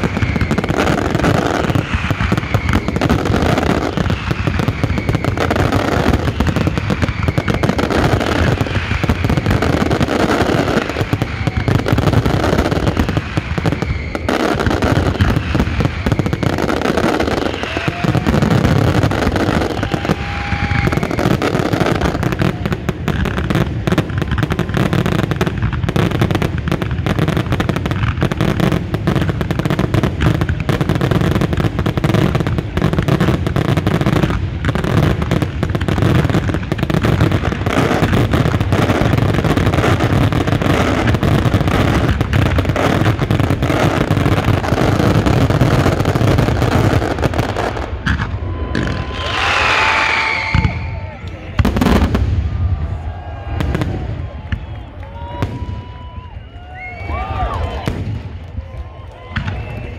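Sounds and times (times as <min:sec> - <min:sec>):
fireworks bursting and crackling: 0:00.0 - 0:59.9
fireworks whistling: 0:00.0 - 0:59.9.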